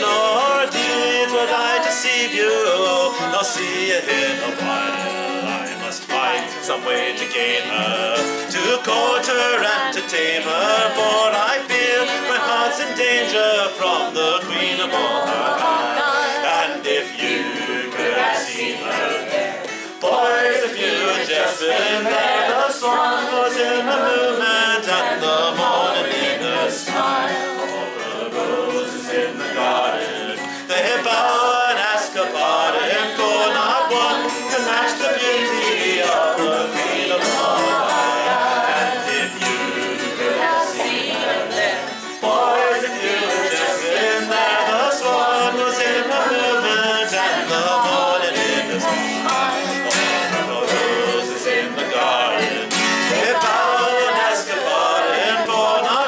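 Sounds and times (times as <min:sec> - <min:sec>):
man singing folk song: 0:00.0 - 0:56.0
twelve-string acoustic guitar strumming: 0:00.0 - 0:56.0.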